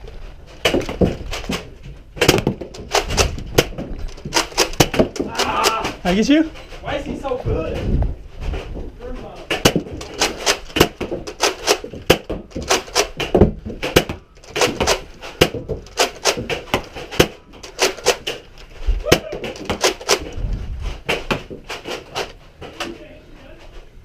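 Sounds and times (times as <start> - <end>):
heavy thumps: 0.0 - 23.0
sharp clacks and knocks: 0.5 - 6.0, 8.5 - 18.7, 19.3 - 22.9.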